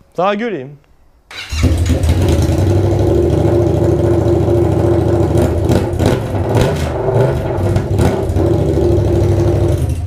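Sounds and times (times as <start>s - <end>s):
unmuffled motorcycle engine running: 1.5s - 10.0s.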